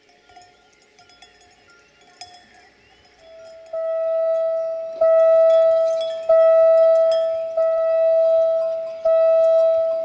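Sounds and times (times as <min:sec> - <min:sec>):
level crossing bell ringing: 0:01.8 - 0:10.0.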